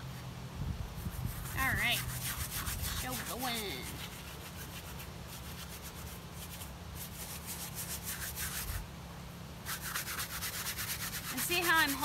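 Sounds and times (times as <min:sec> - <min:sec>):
bristle brush scrubbing canvas: 0:01.0 - 0:08.8, 0:09.6 - 0:12.0.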